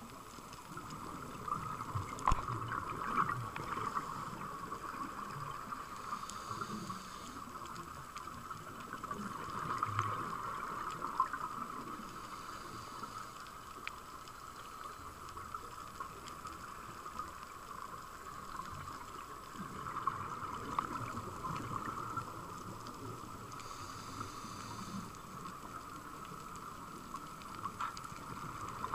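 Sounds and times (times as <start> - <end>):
faint clicks and crackles: 0.0 - 28.9
muffled underwater noise: 0.0 - 28.9.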